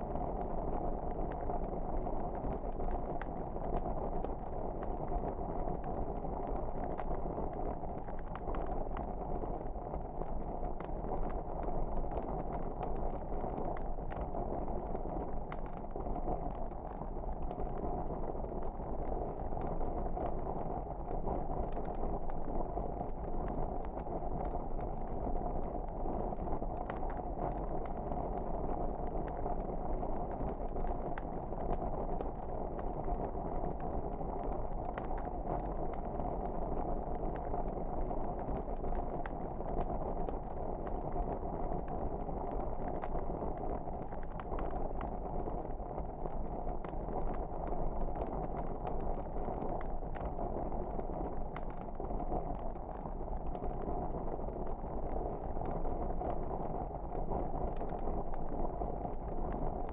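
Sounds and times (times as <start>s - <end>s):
fire crackling and popping: 0.0s - 59.9s
wood fire burning: 0.0s - 59.9s.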